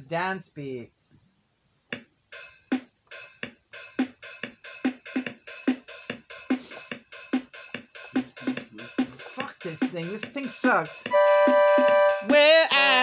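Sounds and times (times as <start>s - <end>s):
drum machine beat: 1.9s - 13.0s.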